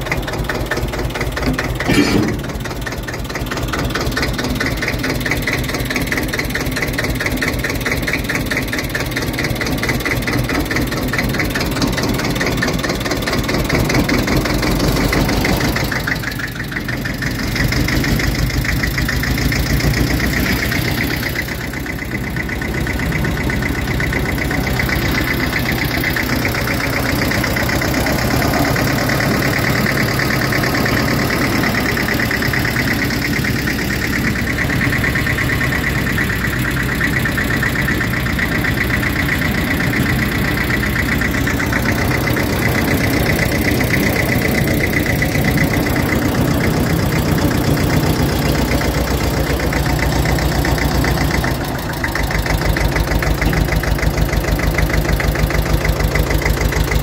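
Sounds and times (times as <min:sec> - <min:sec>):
diesel locomotive engine pulsing: 0:00.0 - 0:57.0.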